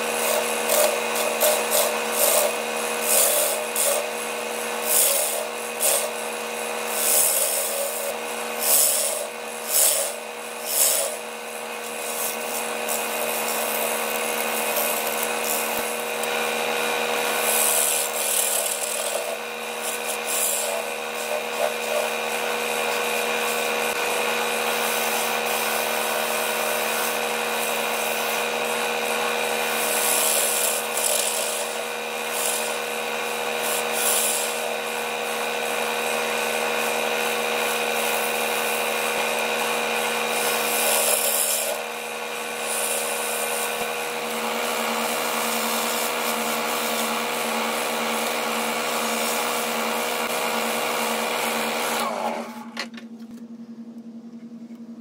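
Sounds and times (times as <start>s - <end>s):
gouge cutting wood hiss: 0.0s - 52.6s
wood lathe motor hum: 0.0s - 53.2s.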